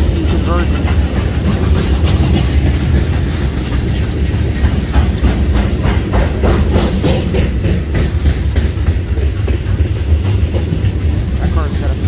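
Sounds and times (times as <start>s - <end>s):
freight train rumbling: 0.0s - 12.0s
wheels clicking over rail joints: 0.0s - 12.0s.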